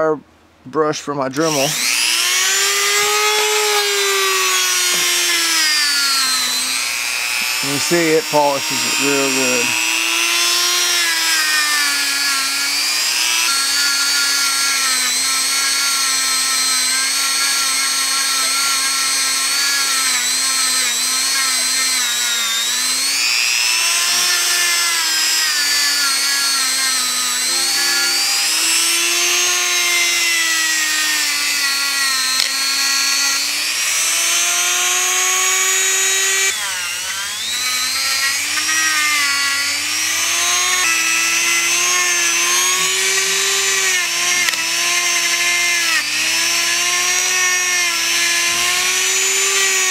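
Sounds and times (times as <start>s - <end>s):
rotary tool motor whine: 1.4s - 49.9s.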